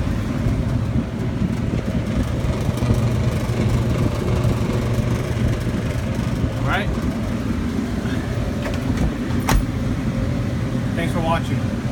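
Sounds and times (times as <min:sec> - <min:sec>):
refrigeration hum with fan: 0:00.0 - 0:11.9.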